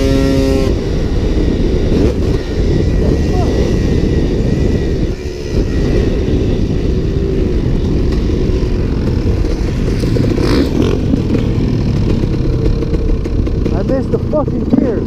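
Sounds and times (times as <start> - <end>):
dirt bike engine rumbling: 0.0 - 15.0.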